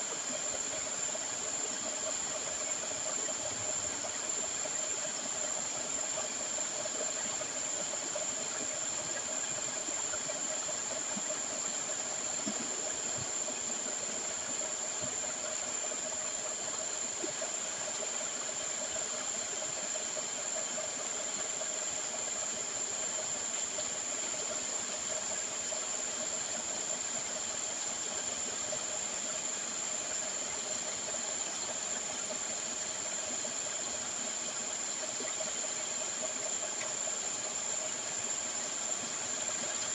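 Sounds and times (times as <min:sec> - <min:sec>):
slurry pouring with rushing hiss: 0:00.0 - 0:39.9.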